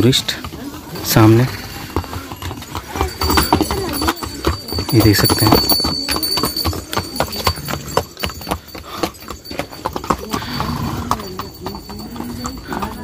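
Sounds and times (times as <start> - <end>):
hooves clip-clopping on stone: 0.0 - 13.0.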